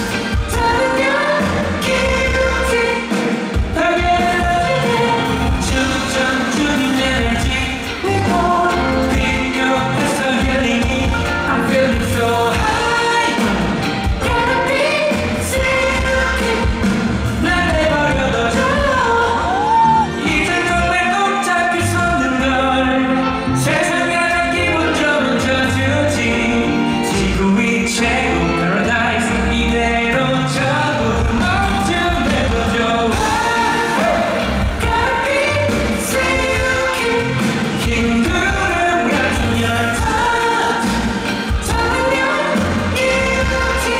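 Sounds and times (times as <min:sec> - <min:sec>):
band playing pop music: 0:00.0 - 0:43.9
man singing live: 0:00.0 - 0:43.9.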